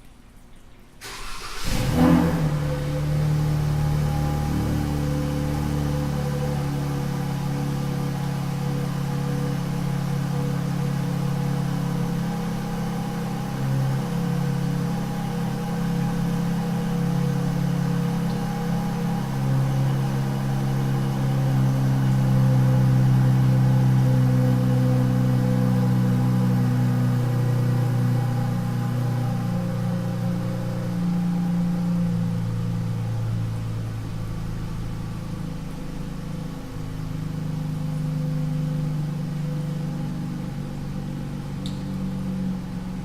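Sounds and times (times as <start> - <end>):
car engine idling: 1.0 - 43.0.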